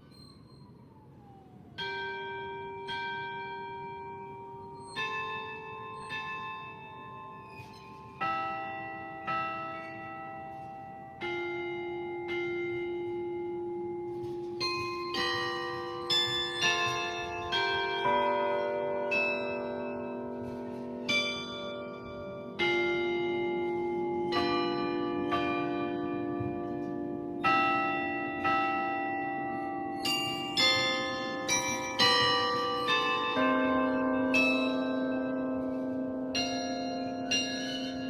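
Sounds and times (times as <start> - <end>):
carillon bells ringing: 0.0 - 38.0.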